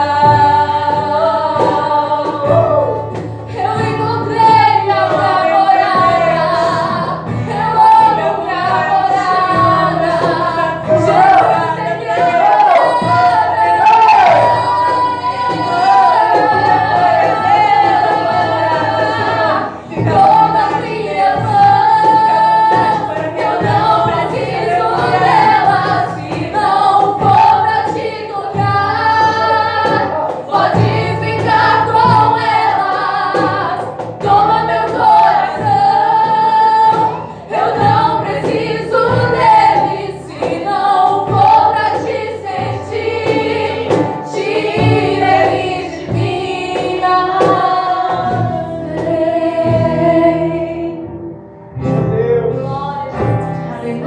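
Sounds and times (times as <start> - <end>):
strummed acoustic guitar: 0.0 - 54.0
women singing: 0.0 - 54.0.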